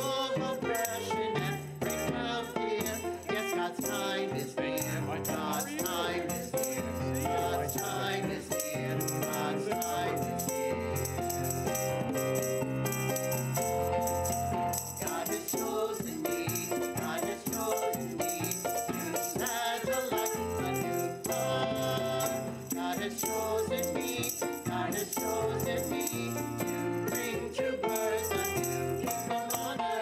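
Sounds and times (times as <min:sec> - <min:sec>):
congregation singing a hymn: 0:00.0 - 0:11.8, 0:14.8 - 0:30.0
instrumental accompaniment: 0:00.0 - 0:30.0
rattling hand percussion: 0:00.0 - 0:30.0.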